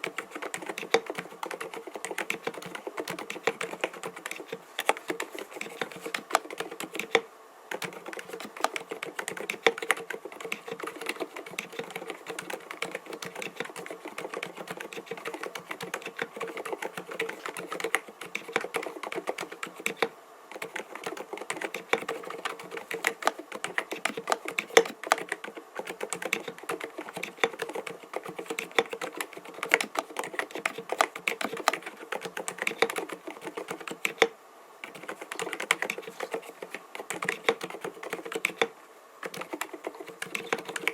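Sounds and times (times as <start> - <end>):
muted mechanical keyboard typing: 0.0 - 40.9.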